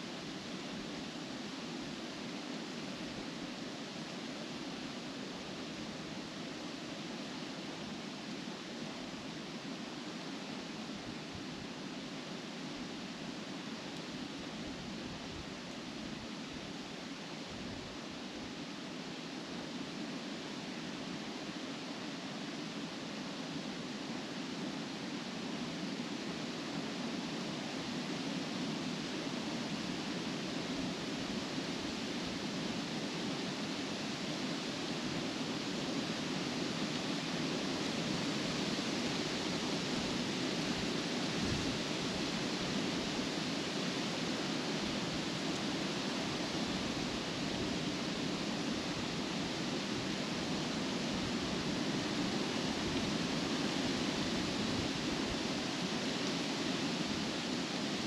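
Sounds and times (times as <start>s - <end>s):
wind rustling leaves: 0.0s - 58.0s.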